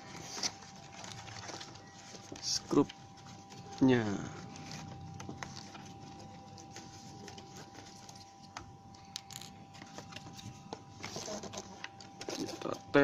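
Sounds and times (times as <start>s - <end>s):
packaging clicks and rustles: 0.0s - 13.0s.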